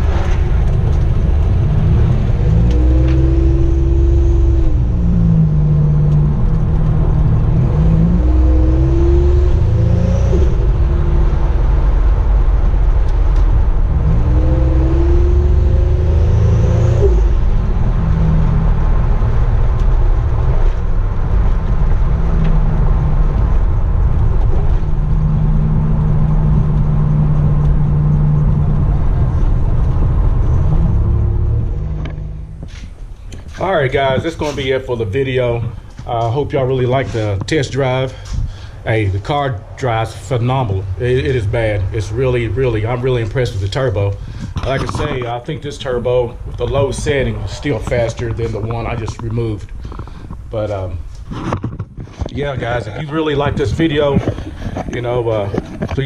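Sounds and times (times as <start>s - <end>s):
car engine revving: 0.0s - 51.3s.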